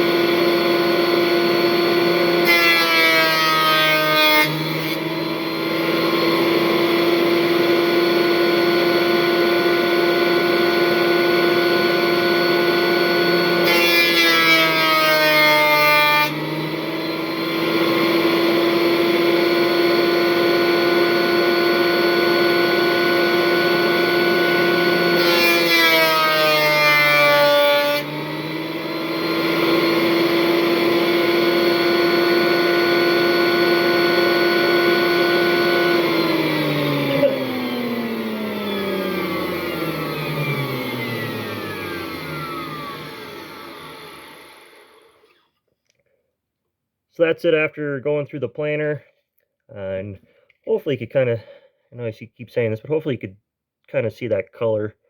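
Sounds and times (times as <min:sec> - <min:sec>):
thickness planer motor whine: 0:00.0 - 0:45.5.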